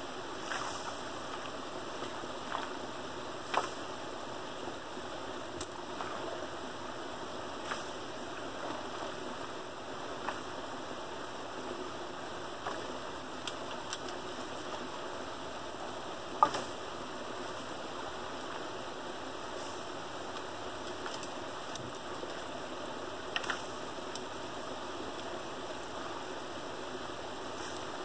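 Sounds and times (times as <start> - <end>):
water running through dam: 0.0 - 28.0.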